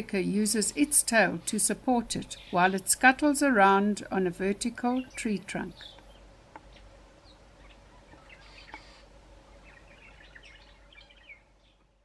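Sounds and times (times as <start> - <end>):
birds chirping: 0.0 - 12.0
soft steady hiss: 0.0 - 12.0.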